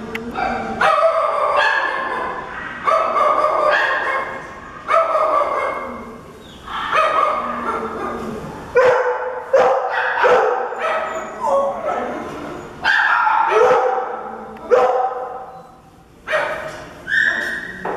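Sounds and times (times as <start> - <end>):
dogs barking: 0.4 - 12.2, 12.8 - 15.5, 16.2 - 17.9.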